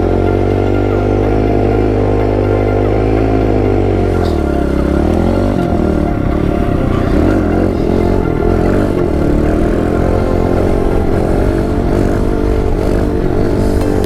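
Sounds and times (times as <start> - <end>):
pit bike engine running: 0.0 - 14.0.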